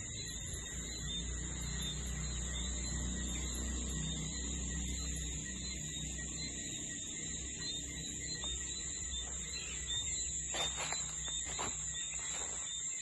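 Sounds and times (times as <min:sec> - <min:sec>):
crickets trilling: 0:00.0 - 0:13.0
faint insect chirping: 0:00.0 - 0:13.0.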